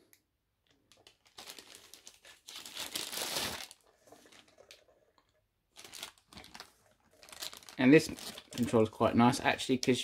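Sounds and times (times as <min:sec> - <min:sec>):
packaging crinkling: 0:00.6 - 0:09.1.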